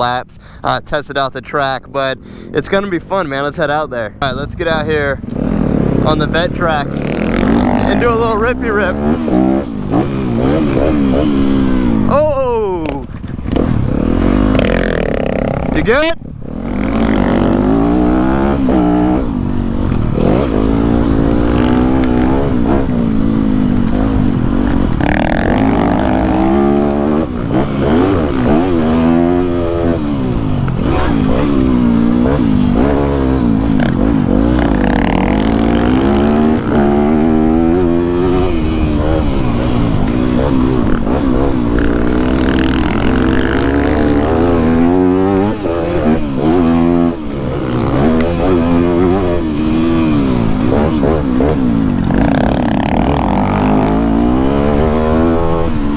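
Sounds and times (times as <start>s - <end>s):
dirt bike engine revving: 2.8s - 55.9s.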